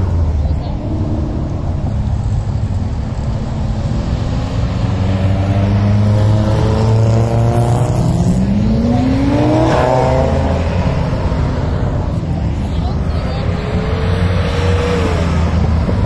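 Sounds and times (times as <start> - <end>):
car engine revving up: 0.0 - 16.0
car engines running: 0.0 - 16.0.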